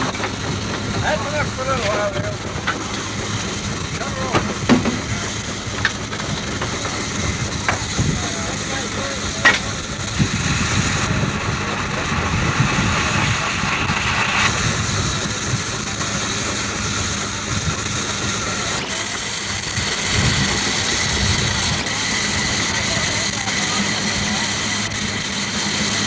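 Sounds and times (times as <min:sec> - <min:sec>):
steam traction engine rumbling: 0:00.0 - 0:26.0.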